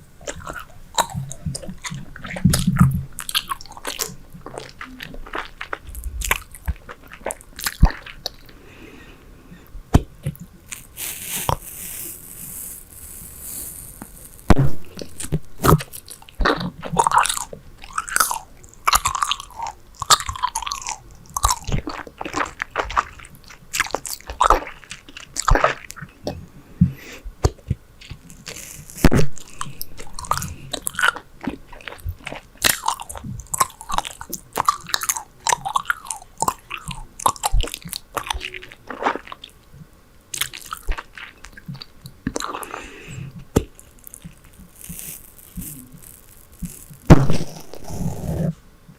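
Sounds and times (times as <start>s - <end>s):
gum chewing smacks: 0.2s - 8.6s, 14.5s - 39.6s, 40.3s - 48.3s.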